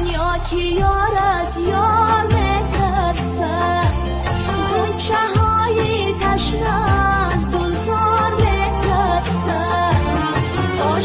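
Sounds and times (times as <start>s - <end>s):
instrumental song with sliding melody: 0.0s - 11.0s.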